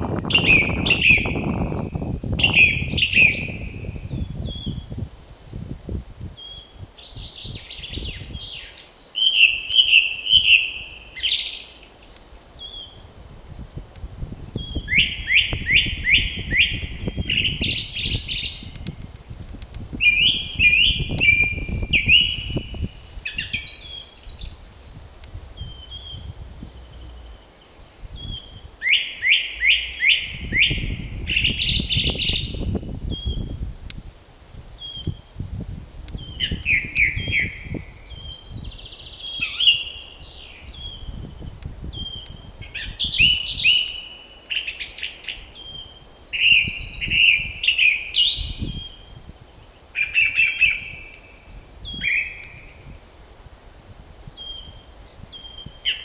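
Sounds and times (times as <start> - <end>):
wind gusts rumbling: 0.0 - 8.6, 9.5 - 44.1, 45.3 - 55.9
songbird singing: 0.0 - 56.0.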